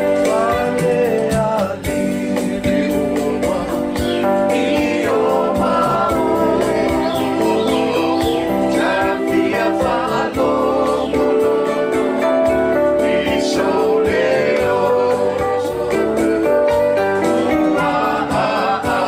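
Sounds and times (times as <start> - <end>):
accompaniment with steady beat: 0.0 - 19.0
group singing in parts: 0.0 - 19.0.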